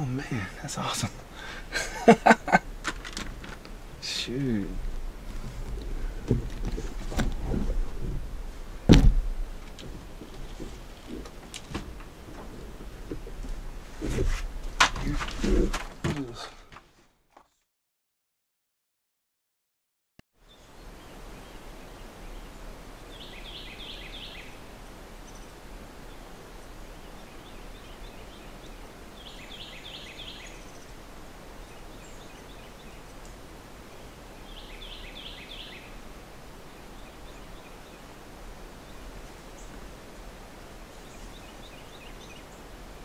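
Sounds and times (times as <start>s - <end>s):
background hiss: 0.0s - 16.7s, 20.4s - 43.0s.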